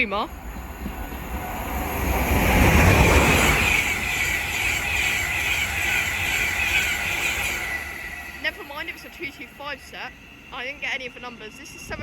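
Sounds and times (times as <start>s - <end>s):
high ringing on rails: 0.0s - 12.0s
train wheels rushing on rails: 0.0s - 12.0s.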